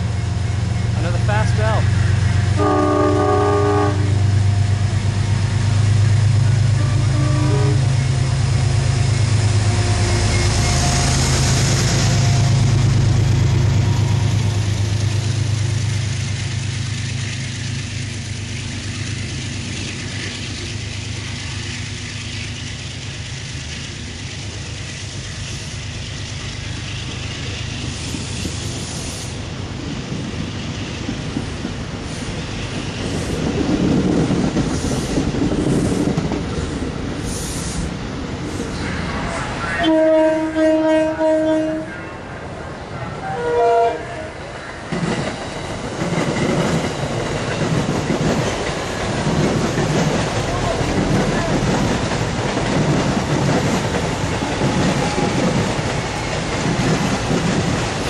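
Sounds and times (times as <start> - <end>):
electric train low hum: 0.0 - 58.0
train wheels clattering on rails: 4.4 - 39.3, 44.8 - 58.0.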